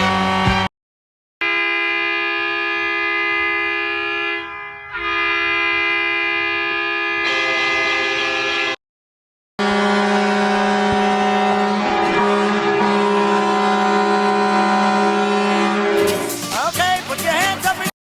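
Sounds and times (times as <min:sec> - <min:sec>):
multi-tone air horn: 0:01.4 - 0:08.8, 0:09.6 - 0:17.8.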